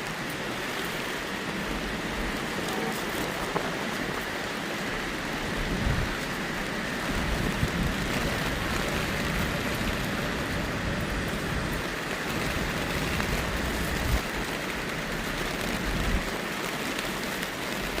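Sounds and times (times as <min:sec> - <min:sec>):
heavy rain on a street: 0:00.0 - 0:18.0.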